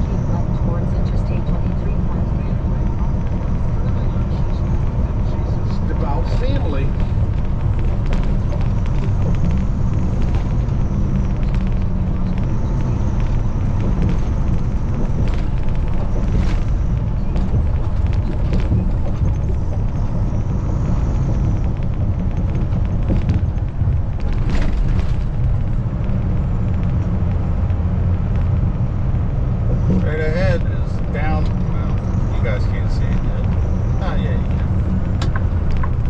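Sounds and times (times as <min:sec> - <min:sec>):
truck engine and road rumble: 0:00.0 - 0:36.0.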